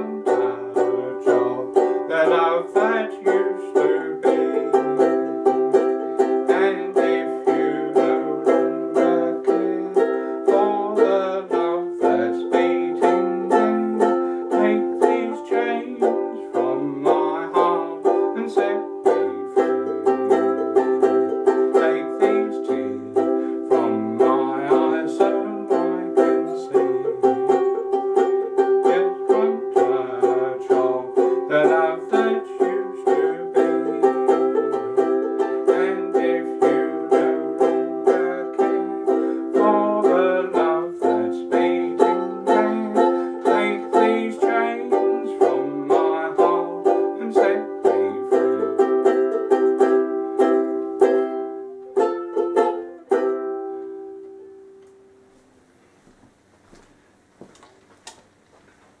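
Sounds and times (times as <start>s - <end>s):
banjo-ukulele strumming chords: 0.0s - 55.1s.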